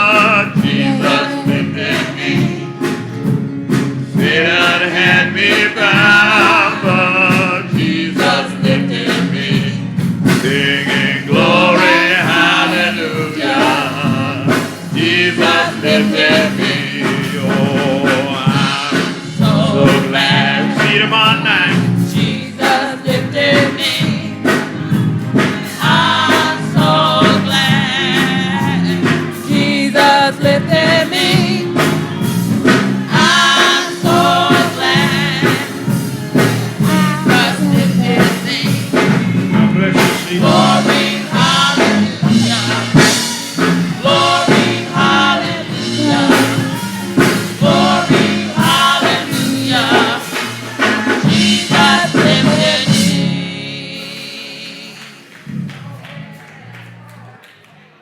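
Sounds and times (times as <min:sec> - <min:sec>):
congregation singing: 0:00.0 - 0:56.8
instrumental accompaniment: 0:00.0 - 0:57.1.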